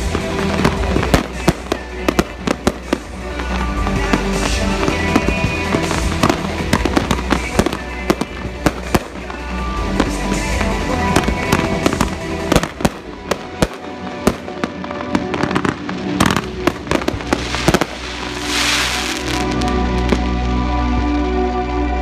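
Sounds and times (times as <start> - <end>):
fireworks bangs: 0.0 - 20.3
music: 0.0 - 22.0.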